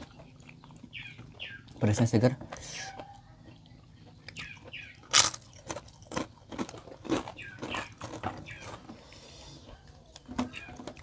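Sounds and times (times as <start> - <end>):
chewing and crunching food: 0.0 - 11.0.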